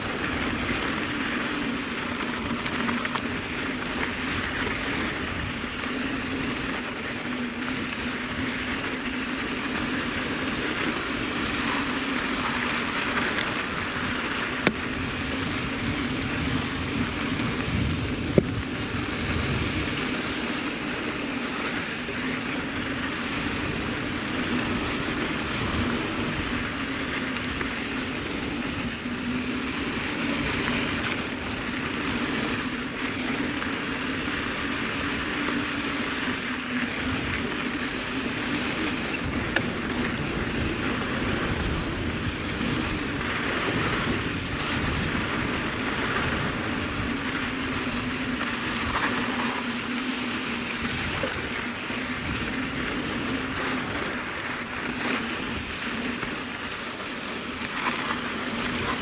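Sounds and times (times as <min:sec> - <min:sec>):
bike tyres rolling on dirt: 0:00.0 - 0:59.0
wind noise on microphone: 0:00.0 - 0:59.0.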